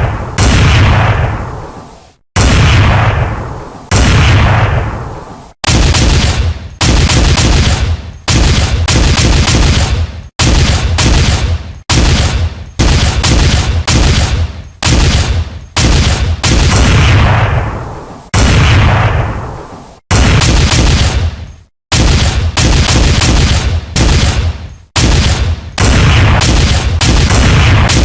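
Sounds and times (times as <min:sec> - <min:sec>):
gunfire and explosion effects: 0:00.0 - 0:28.0.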